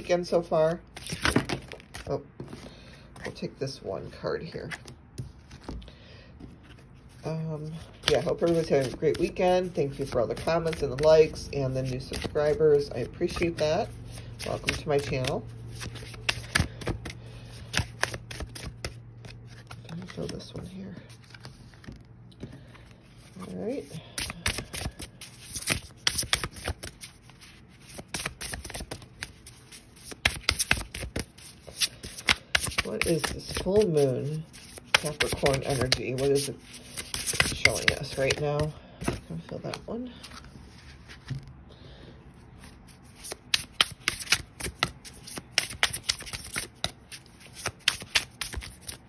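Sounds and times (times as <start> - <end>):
cards being shuffled: 0.3 - 3.4, 4.6 - 41.6, 42.6 - 49.0.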